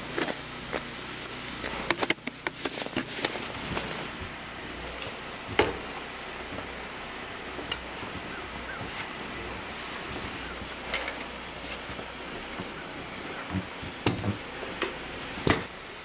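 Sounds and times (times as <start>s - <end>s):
snow shovel and brush scraping: 0.0s - 16.0s.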